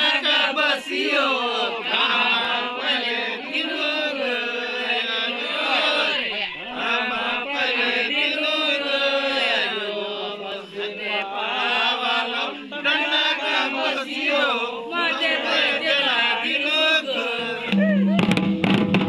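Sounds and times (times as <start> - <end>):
men chanting a song: 0.0 - 18.1.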